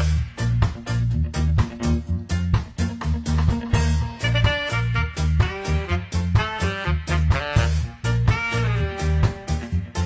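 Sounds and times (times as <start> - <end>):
upbeat swing music: 0.0 - 10.0.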